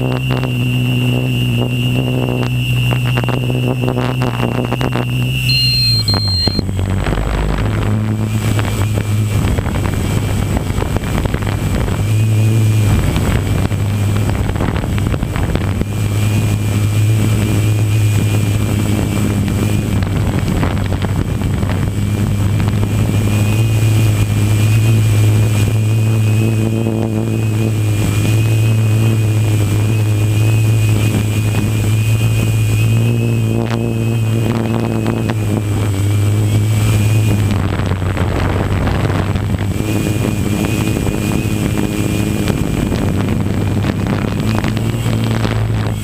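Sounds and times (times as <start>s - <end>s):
drone propellers humming: 0.0s - 46.0s
wind buffeting microphone: 0.0s - 46.0s.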